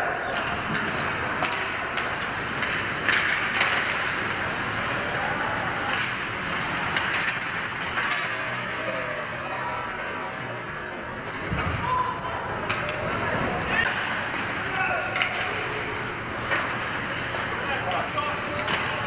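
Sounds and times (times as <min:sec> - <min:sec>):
crowd murmuring: 0:00.0 - 0:19.0
hockey sticks and puck clacking: 0:00.0 - 0:19.0
skates rushing on ice: 0:00.0 - 0:19.0.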